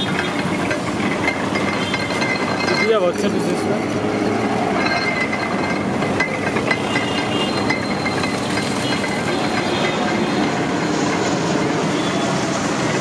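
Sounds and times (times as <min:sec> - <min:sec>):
juice crusher gears rattling: 0:00.0 - 0:11.3.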